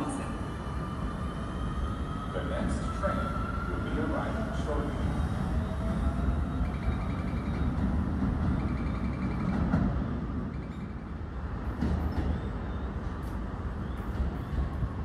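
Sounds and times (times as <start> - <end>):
electric trains rumbling: 0.0 - 15.0.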